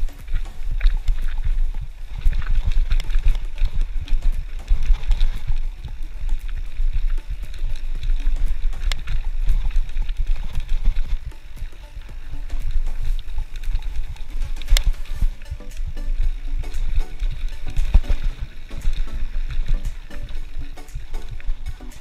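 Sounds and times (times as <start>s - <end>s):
bike rattling over rough trail: 0.0s - 22.0s
wind buffeting microphone: 0.0s - 22.0s.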